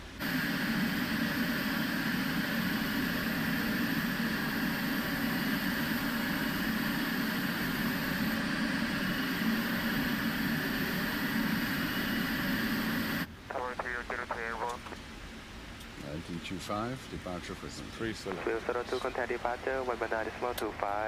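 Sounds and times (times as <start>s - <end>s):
jet engines idling: 0.0s - 15.0s, 16.7s - 21.0s.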